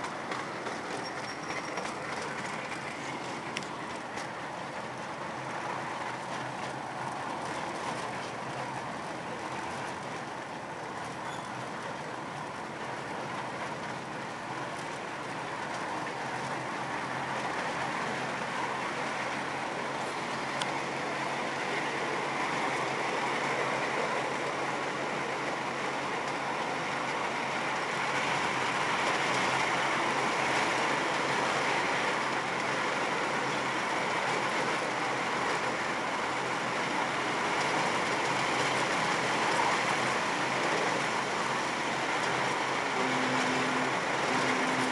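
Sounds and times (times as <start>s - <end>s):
train wheels rolling on rails: 0.0s - 44.9s.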